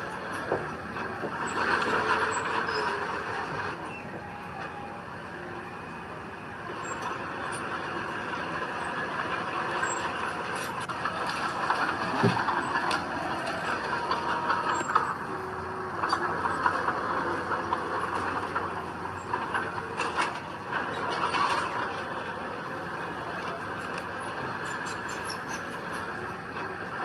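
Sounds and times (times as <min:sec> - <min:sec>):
diesel earthmoving machinery running: 0:00.0 - 0:27.0.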